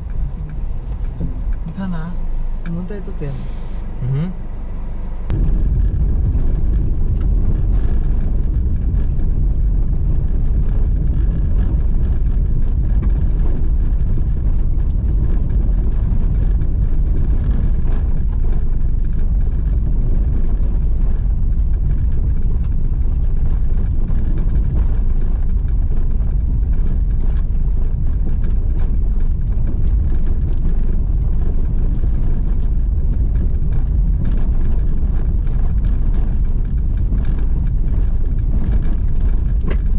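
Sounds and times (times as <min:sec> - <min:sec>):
car rumbling on rough road: 0:00.0 - 0:39.9.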